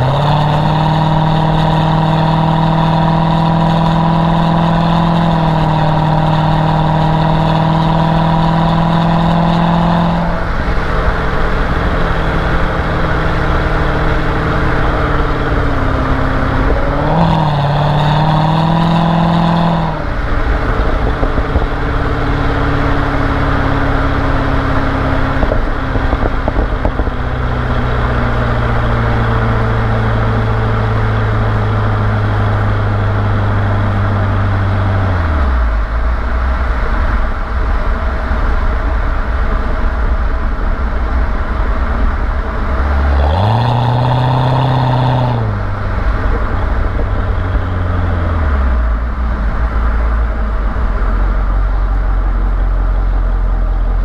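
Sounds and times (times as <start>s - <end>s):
car engine droning: 0.0s - 54.0s
loud rushing noise: 0.0s - 54.0s.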